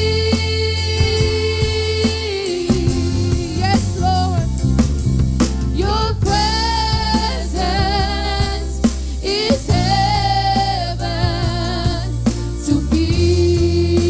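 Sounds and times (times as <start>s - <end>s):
women singing: 0.0s - 4.4s, 5.7s - 14.0s
bass: 0.0s - 14.0s
drum kit: 0.0s - 14.0s.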